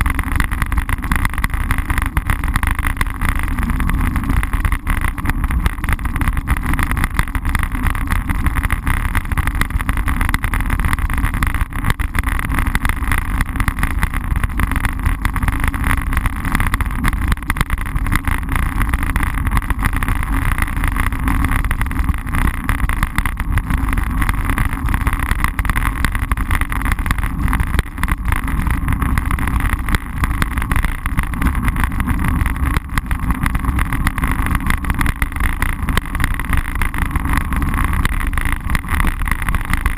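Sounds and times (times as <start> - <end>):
bicycle tyres rumbling on asphalt: 0.0 - 39.9.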